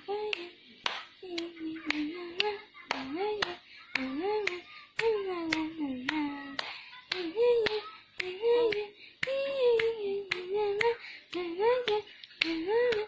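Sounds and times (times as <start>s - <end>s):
hand claps: 0.2s - 13.0s.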